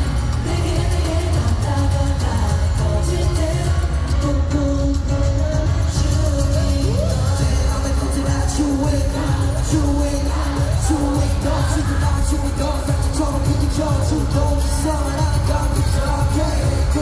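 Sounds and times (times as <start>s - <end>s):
man singing: 0.0s - 17.0s
pop backing track with bass: 0.0s - 17.0s.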